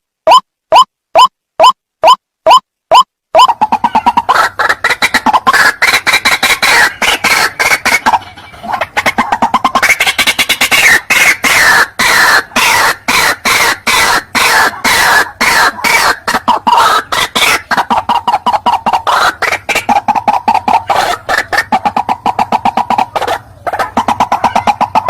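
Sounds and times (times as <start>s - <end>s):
waterhen calling harshly: 2.0s - 25.0s.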